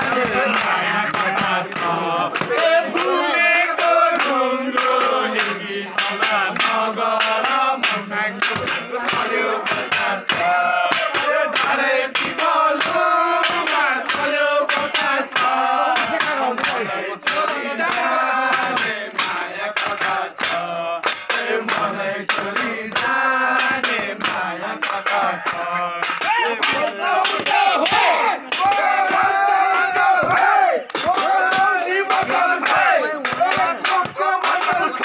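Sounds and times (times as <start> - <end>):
group singing folk song: 0.0 - 35.0
sharp rhythmic beats: 0.0 - 35.0.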